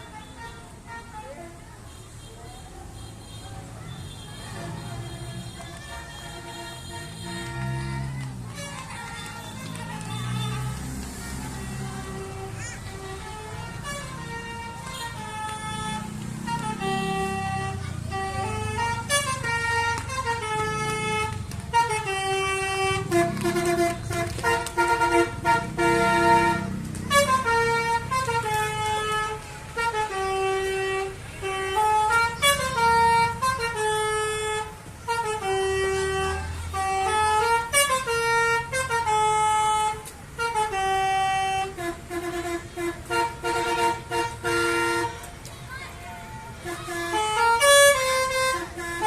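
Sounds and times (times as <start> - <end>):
bus horn playing a tune: 0.0 - 2.4, 3.0 - 45.3, 46.5 - 49.0.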